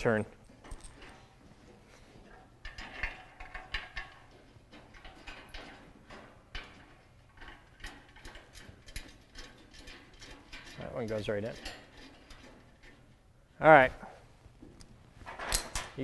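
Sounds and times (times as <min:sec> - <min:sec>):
metal bolts clicking and scraping: 0:00.0 - 0:13.2, 0:15.2 - 0:16.0.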